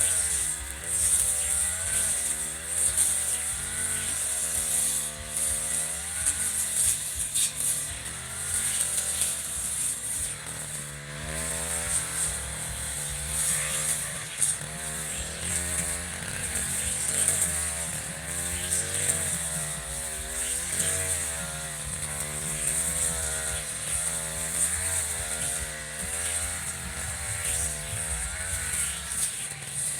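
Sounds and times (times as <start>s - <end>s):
brush cutter engine running: 0.0s - 29.9s.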